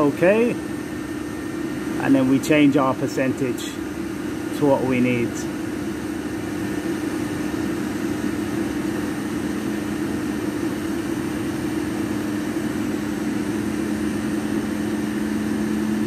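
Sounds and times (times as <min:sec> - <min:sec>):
boiler humming: 0:00.0 - 0:16.0
combustion fan and burner hiss: 0:00.0 - 0:16.0.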